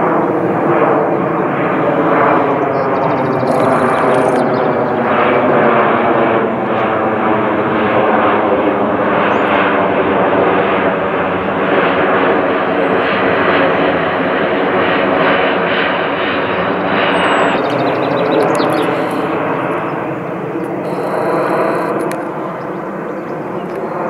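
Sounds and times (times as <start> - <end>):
jet engines passing overhead: 0.0 - 24.0.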